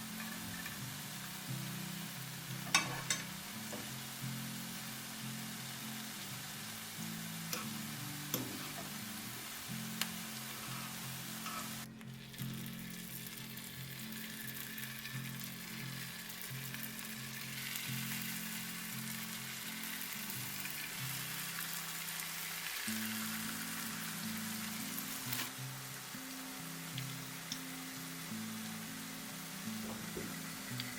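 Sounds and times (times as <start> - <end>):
potatoes sizzling in hot oil: 0.0 - 30.9.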